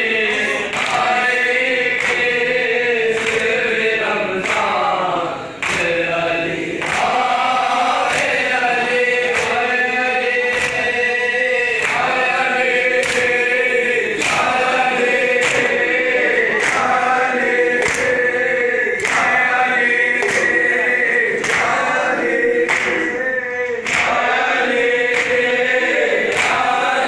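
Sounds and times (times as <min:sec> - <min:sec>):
men chanting a lament: 0:00.0 - 0:27.0.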